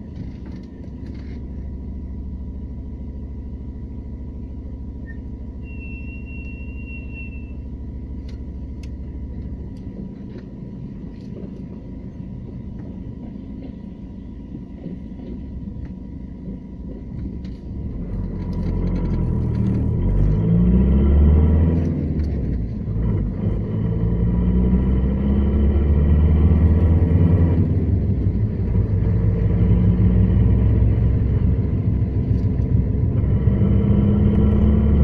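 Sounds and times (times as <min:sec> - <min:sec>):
diesel engine accelerating: 0:00.0 - 0:35.0.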